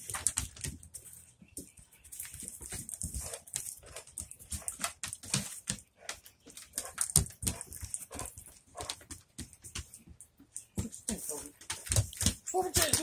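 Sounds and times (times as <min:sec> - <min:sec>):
dog claws clicking on wooden deck: 0:00.0 - 0:13.0.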